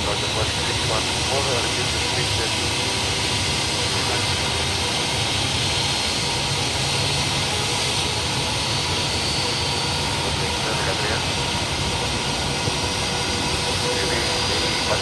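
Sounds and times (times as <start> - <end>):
faint jet engine whine: 0.0 - 15.0
jet engines rumbling: 0.0 - 15.0.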